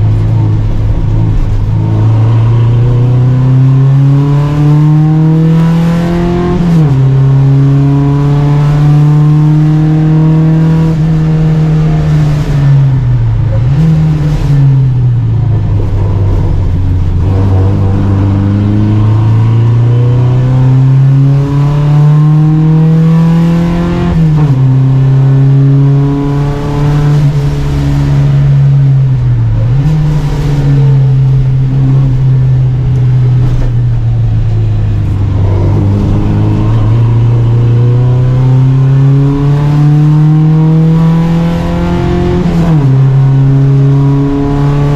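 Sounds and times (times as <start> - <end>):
race car engine pulling hard: 0.0 - 44.9.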